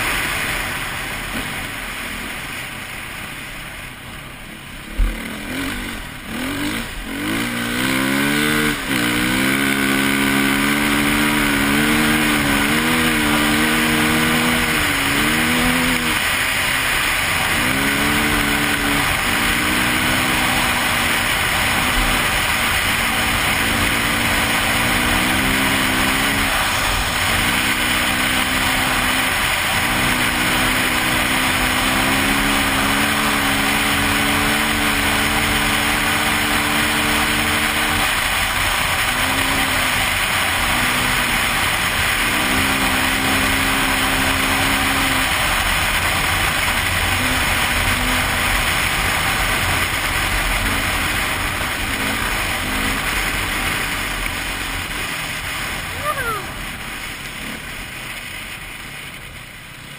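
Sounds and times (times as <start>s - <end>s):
motorcycle engine revving: 4.5s - 59.9s.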